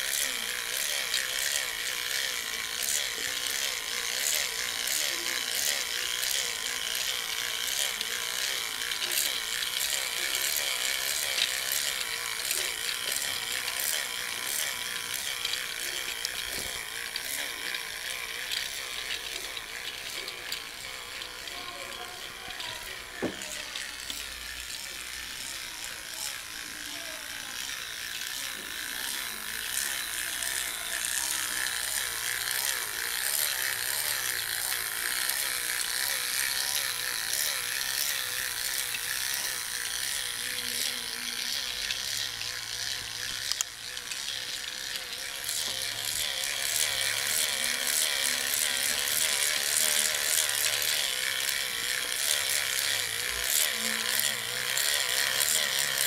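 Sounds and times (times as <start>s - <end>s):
toy train motor whirring: 0.0s - 56.0s.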